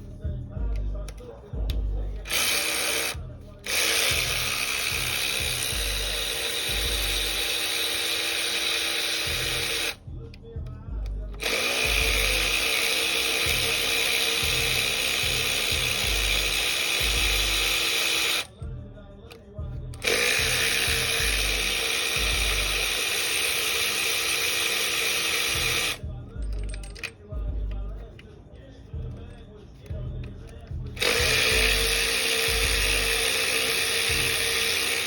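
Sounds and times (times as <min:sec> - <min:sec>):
low regular beat: 0:00.0 - 0:35.0
power tool spinning: 0:01.0 - 0:10.0, 0:11.2 - 0:18.5, 0:19.3 - 0:28.3, 0:29.1 - 0:35.0.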